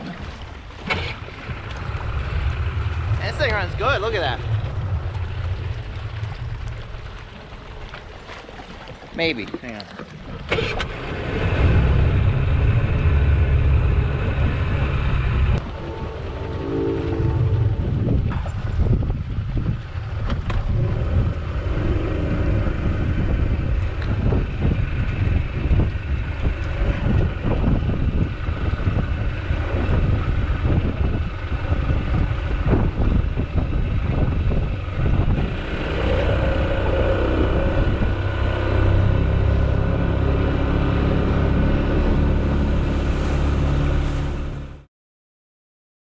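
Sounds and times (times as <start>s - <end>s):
wind buffeting microphone: 0.0s - 9.4s, 10.0s - 44.4s
boat engine drone: 0.0s - 44.9s.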